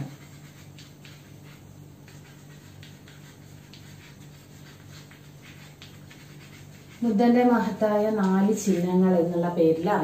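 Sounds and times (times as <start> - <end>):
chalk scratching on blackboard: 0.0 - 10.0
steady low hum: 0.0 - 10.0.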